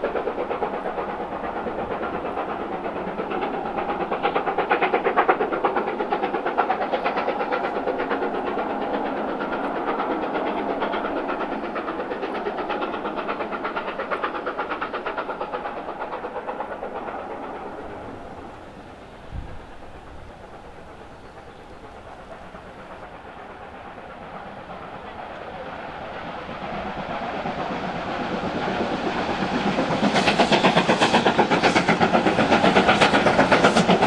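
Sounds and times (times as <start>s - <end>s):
steam locomotive exhaust beats: 0.0s - 34.0s.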